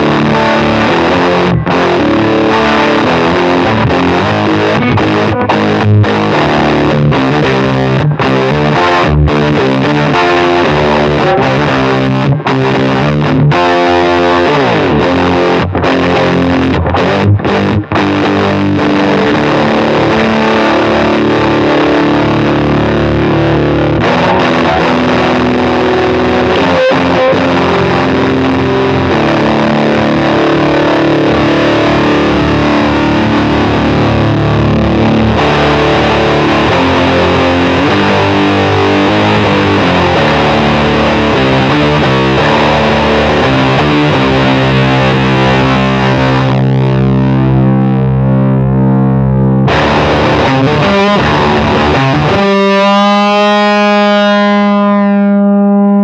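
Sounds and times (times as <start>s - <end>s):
fuzzy distorted electric guitar: 0.0s - 56.0s.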